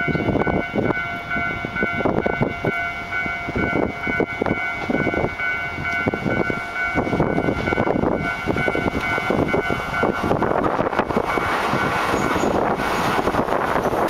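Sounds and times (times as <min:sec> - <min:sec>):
electric train running past: 0:00.0 - 0:14.0
wind buffeting microphone: 0:00.0 - 0:14.0.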